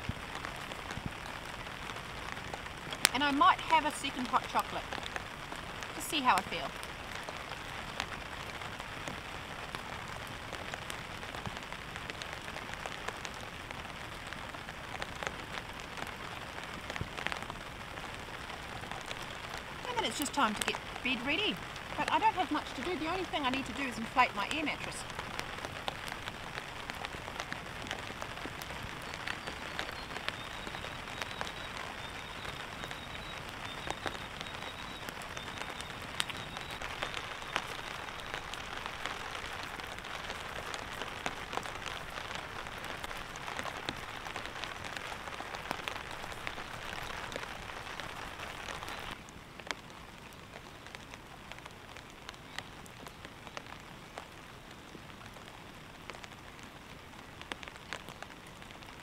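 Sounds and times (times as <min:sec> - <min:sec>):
rain pattering on a tarp: 0:00.0 - 0:59.0.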